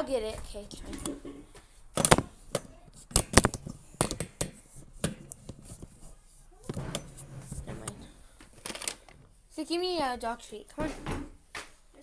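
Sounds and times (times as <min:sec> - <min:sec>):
items rustling on shelves: 0:00.0 - 0:12.0.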